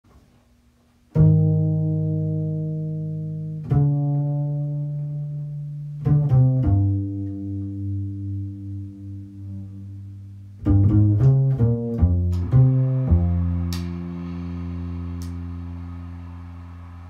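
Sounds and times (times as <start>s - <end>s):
plucked bass notes: 1.1s - 16.8s.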